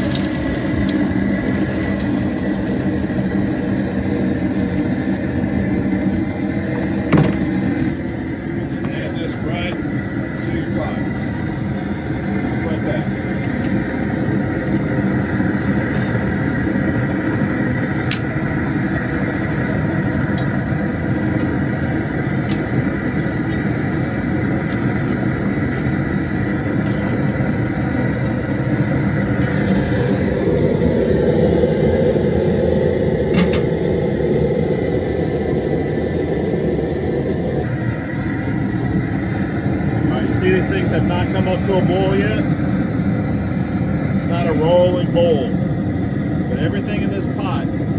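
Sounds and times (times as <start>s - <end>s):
gas burner rushing: 0.0s - 47.9s.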